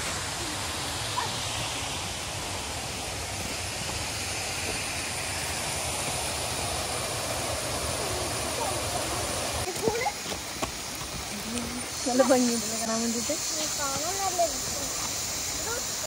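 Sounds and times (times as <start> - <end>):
waterfall and river rushing: 0.0 - 16.0.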